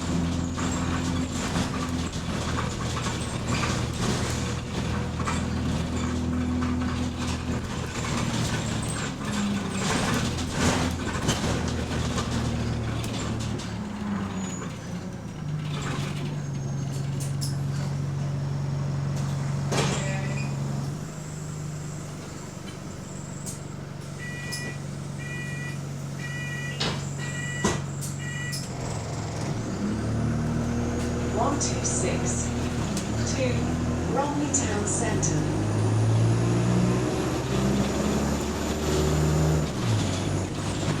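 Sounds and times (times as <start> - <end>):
interior clicks and rattles: 0.0 - 21.1, 25.8 - 35.6, 36.2 - 41.0
diesel bus engine running: 0.0 - 41.0
road noise: 0.0 - 41.0.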